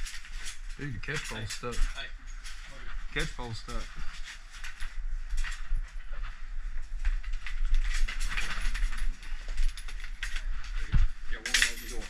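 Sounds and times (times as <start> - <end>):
gear clicking and rattling: 0.0 - 6.0, 6.9 - 12.0.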